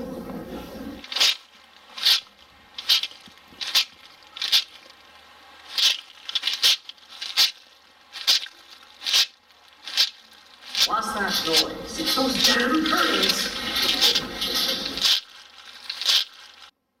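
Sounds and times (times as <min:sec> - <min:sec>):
scraping footsteps: 0:01.0 - 0:16.7.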